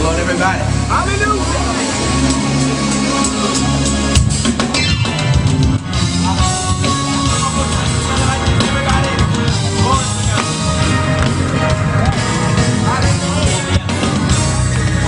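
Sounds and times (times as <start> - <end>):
live gospel band playing: 0.0 - 15.0.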